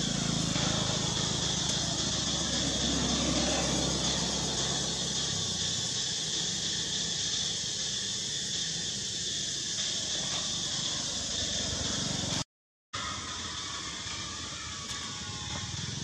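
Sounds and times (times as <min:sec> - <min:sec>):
insect chorus: 0:00.0 - 0:12.4, 0:13.0 - 0:16.0.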